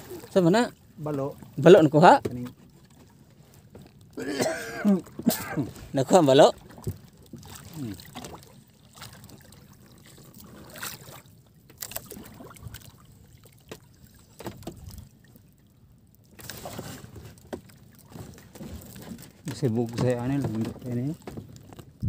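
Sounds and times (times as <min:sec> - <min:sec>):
water washing against boat hull: 0:00.0 - 0:15.6, 0:16.2 - 0:22.0.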